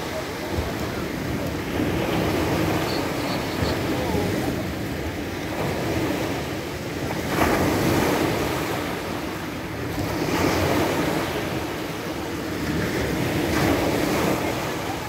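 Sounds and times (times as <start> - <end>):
waves crashing on pebble beach: 0.0 - 15.0.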